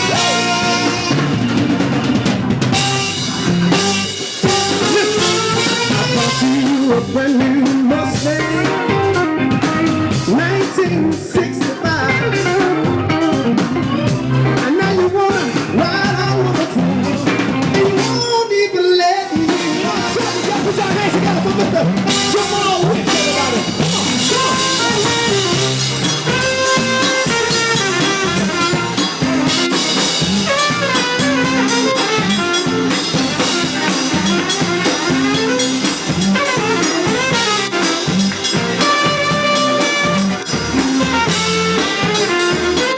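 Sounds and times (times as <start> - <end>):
live blues band: 0.0 - 42.9.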